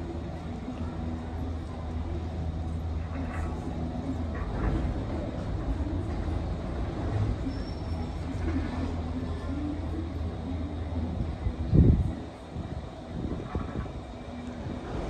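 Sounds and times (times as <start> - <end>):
faint voices: 0.0 - 15.0
gondola low mechanical rumble: 0.0 - 15.0.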